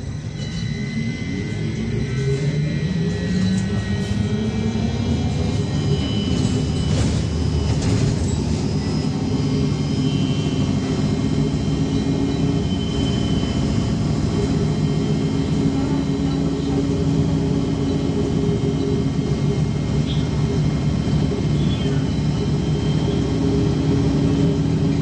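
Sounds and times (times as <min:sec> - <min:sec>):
faint high whines: 0:00.0 - 0:20.4
road and tyre noise: 0:00.0 - 0:25.0.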